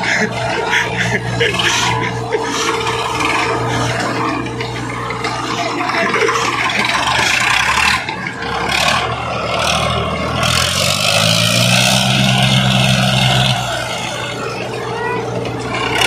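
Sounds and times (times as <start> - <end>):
tractor diesel engines straining: 0.0 - 16.0.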